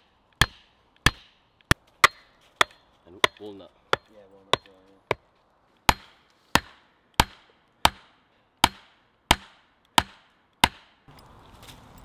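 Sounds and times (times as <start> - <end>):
axe striking wood: 0.0 - 5.3, 5.9 - 11.0.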